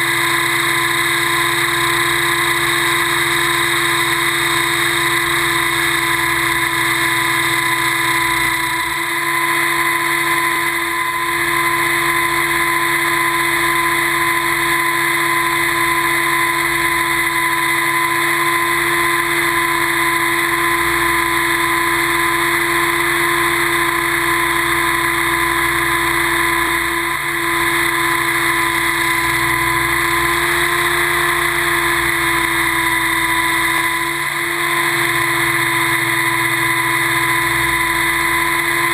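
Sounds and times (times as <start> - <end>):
model helicopter rotor whine: 0.0 - 38.9.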